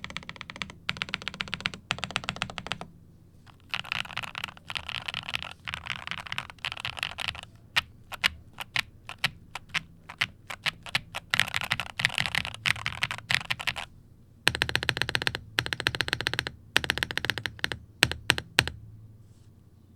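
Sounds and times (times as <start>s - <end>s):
mechanical keyboard typing: 0.0s - 2.9s, 3.5s - 13.9s, 14.5s - 18.8s.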